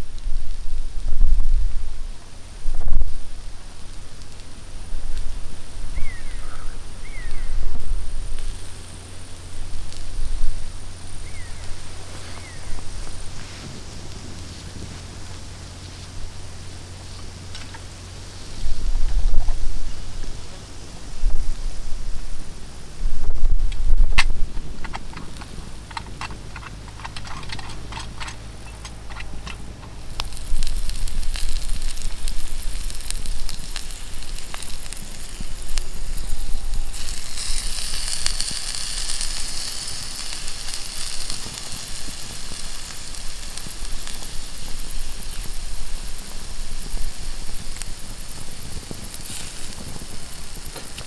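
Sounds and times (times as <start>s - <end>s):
fire crackling: 0.0s - 51.0s
meat sizzling on hot stone: 0.0s - 51.0s
wind: 0.0s - 51.0s.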